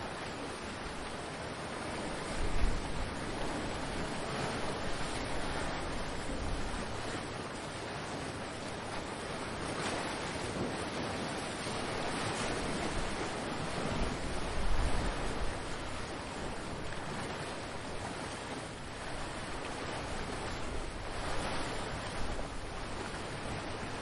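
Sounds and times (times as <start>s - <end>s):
ocean waves washing ashore: 0.0s - 24.0s.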